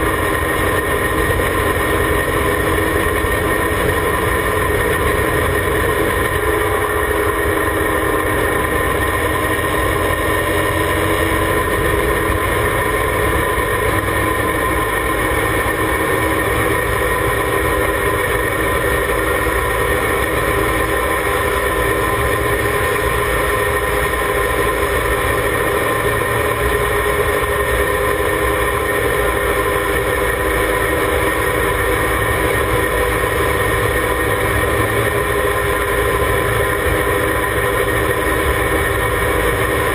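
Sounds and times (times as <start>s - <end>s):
race car engine running steadily: 0.0s - 39.9s.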